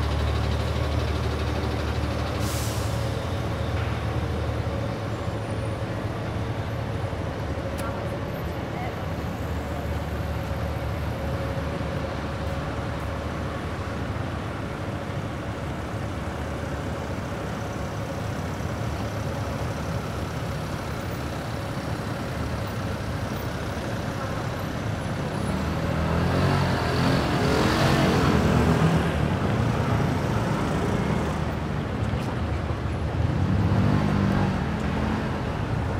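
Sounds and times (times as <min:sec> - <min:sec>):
city street traffic: 0:00.0 - 0:35.9.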